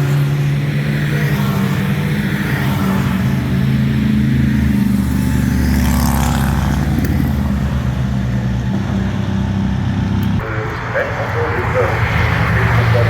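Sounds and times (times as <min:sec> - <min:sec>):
race car passing by: 0:00.0 - 0:09.3, 0:10.0 - 0:13.0
race car engines running: 0:00.0 - 0:13.0.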